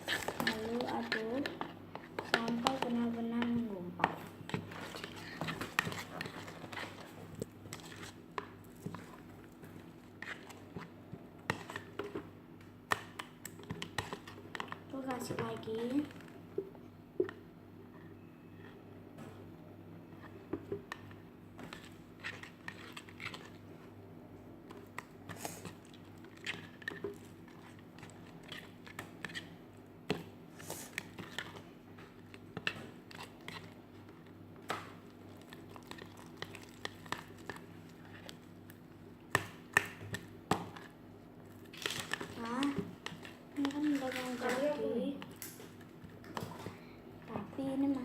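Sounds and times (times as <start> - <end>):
spatula stirring sticky slime: 0.0 - 17.4, 20.1 - 23.9, 24.6 - 48.0.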